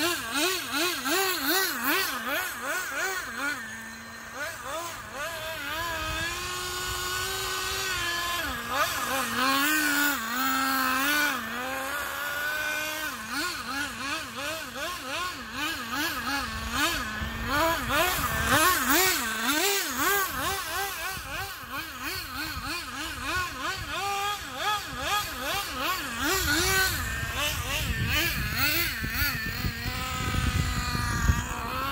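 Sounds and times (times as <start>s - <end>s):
rc car nitro engine revving: 0.0s - 31.9s.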